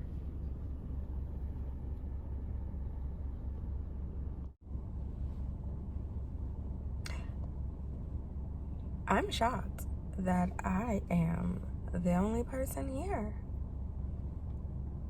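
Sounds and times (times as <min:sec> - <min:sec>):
car engine rumbling: 0:00.0 - 0:14.9.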